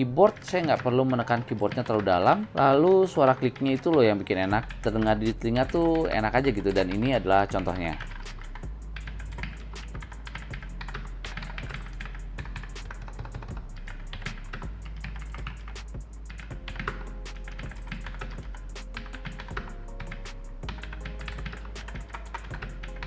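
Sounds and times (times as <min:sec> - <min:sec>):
mechanical keyboard typing: 0:00.0 - 0:23.0.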